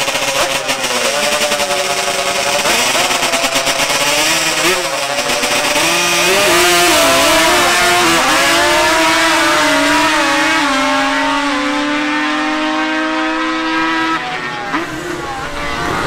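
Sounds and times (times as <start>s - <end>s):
racing engines accelerating: 0.0s - 16.0s.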